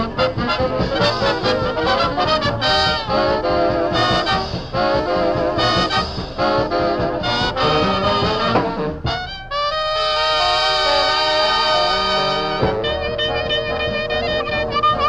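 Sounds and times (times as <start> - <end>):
swing music with brass: 0.0 - 15.0.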